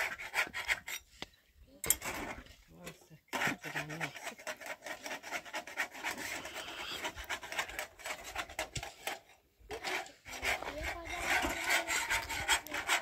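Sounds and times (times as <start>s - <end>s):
rough scraping strokes: 0.0s - 1.3s, 2.0s - 13.0s.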